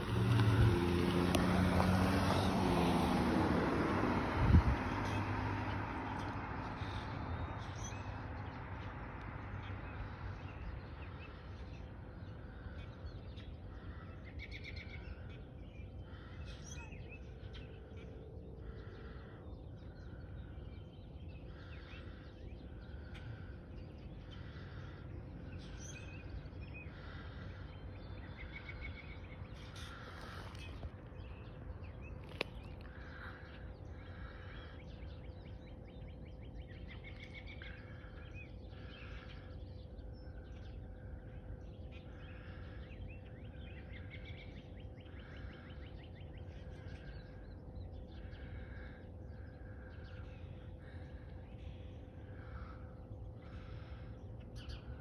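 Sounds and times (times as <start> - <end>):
low steady hum: 4.2 - 55.0
small birds calling: 4.5 - 55.0.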